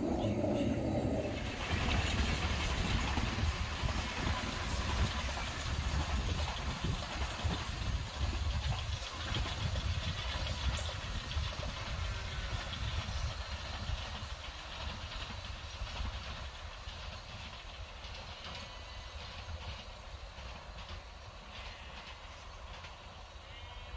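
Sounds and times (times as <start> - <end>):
distant steam train rumble: 0.0 - 23.9.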